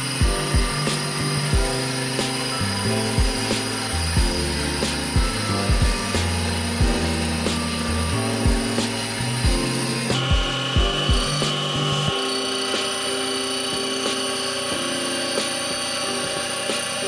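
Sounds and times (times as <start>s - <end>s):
background music with beat: 0.0s - 17.0s
sanding drum grinding metal: 0.0s - 17.0s.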